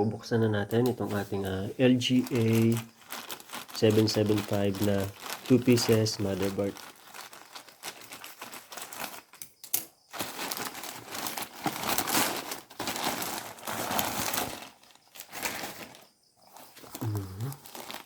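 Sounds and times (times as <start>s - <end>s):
packaging crinkling and rustling: 0.7s - 18.0s
sharp crackles: 2.1s - 18.0s.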